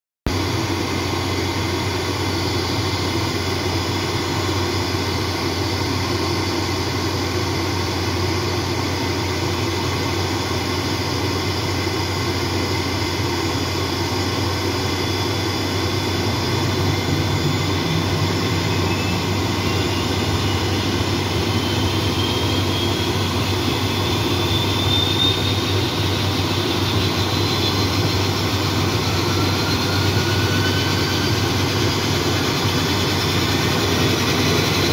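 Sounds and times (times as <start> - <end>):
engine whine rising in pitch: 0.3 - 34.9
turboprop engine whine: 0.3 - 34.9.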